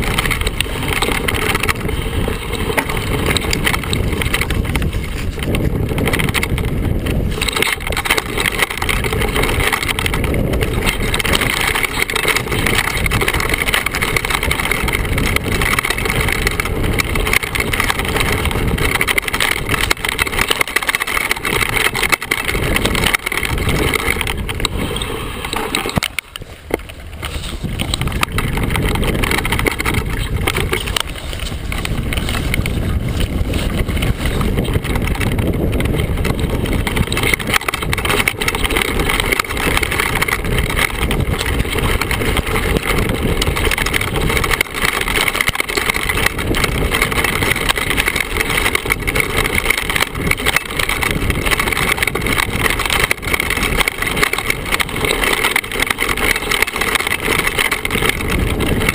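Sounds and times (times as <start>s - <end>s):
bike rattling and clattering: 0.0s - 58.9s
tyres crunching over stones: 0.0s - 58.9s
wind on microphone: 0.0s - 58.9s.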